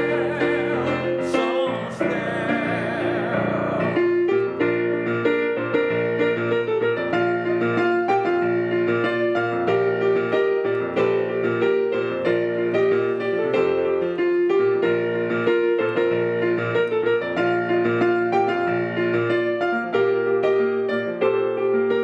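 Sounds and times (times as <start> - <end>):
piano playing a hymn tune: 0.0 - 22.0.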